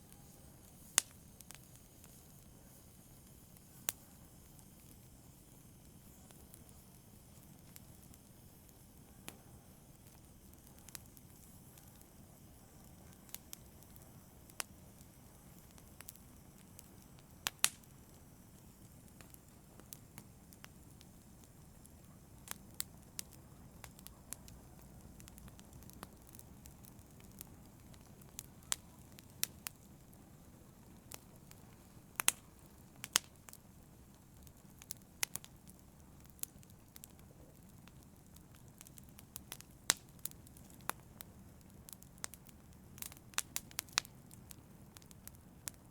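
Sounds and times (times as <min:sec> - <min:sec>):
wood fire popping and snapping: 0:00.0 - 0:09.4, 0:10.0 - 0:45.9
low rumble of burning: 0:00.0 - 0:45.9.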